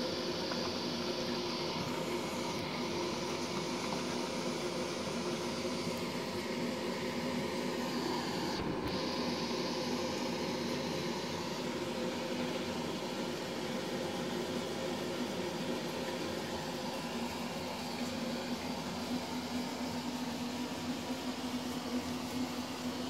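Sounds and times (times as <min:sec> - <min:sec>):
small motor humming: 0:00.0 - 0:23.0.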